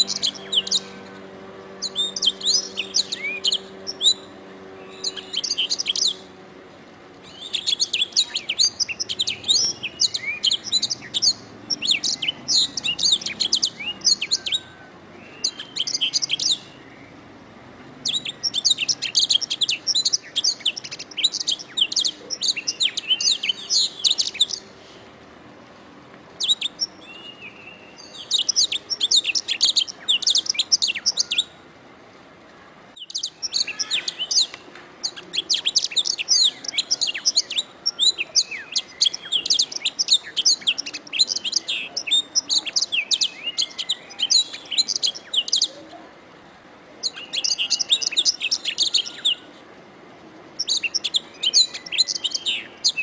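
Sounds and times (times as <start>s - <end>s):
canary singing: 0.0s - 25.0s, 26.4s - 31.7s, 32.9s - 46.0s, 47.0s - 49.6s, 50.4s - 53.0s.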